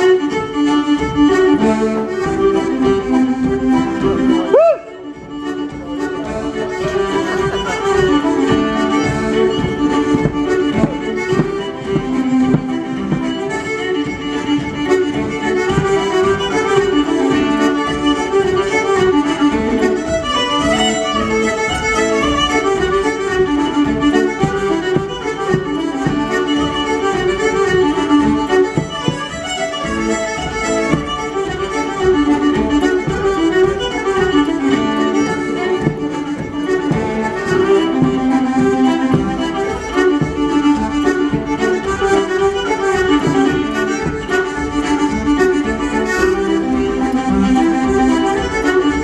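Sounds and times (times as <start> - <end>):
button accordion: 0.0 - 49.0
fiddle playing a reel: 0.0 - 49.0.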